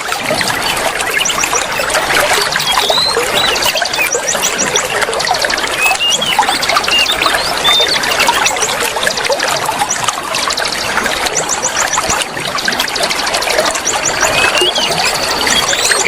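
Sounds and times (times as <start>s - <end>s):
songbirds singing: 0.0s - 16.0s
water trickling: 0.0s - 16.0s.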